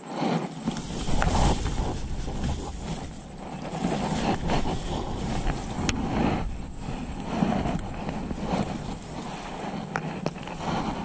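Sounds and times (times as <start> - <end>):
plants rustling against microphone: 0.1 - 11.0
low rumble: 0.7 - 11.0.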